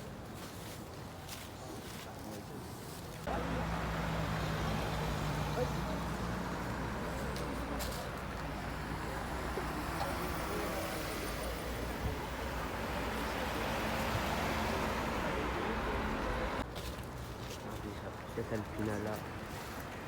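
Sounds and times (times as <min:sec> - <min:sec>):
car engines and road noise: 0:02.4 - 0:20.0.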